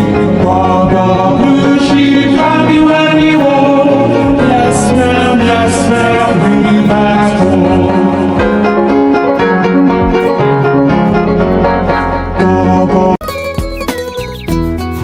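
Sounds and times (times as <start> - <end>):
keyboard children's song music: 0.0 - 15.0
plucked notes tune: 0.0 - 15.0.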